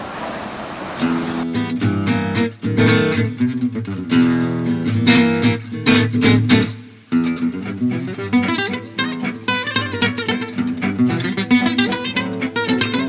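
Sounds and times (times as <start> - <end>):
guitar chords strummed: 1.0 - 13.0.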